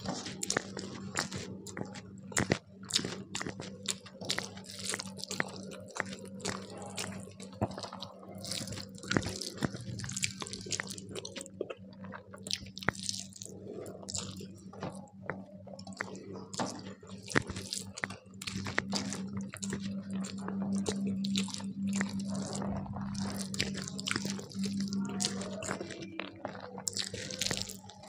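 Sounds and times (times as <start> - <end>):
food crunching: 0.0 - 28.0
person chewing food: 0.0 - 28.0.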